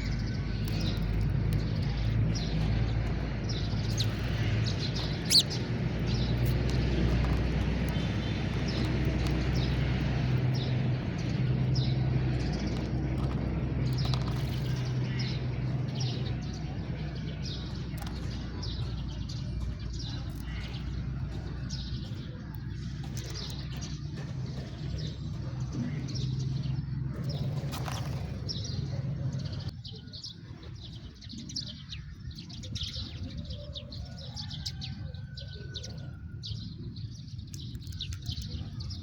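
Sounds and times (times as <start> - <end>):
sparrows chirping: 0.0 - 39.0.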